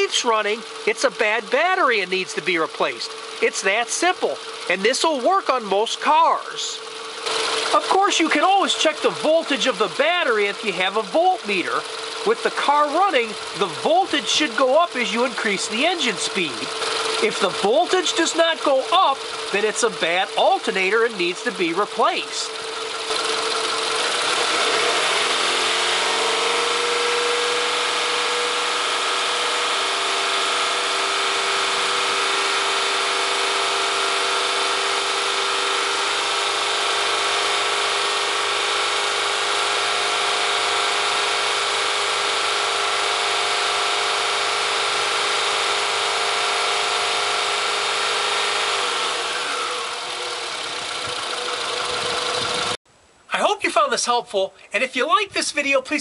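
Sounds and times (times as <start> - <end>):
car engine revving: 0.0 - 52.8.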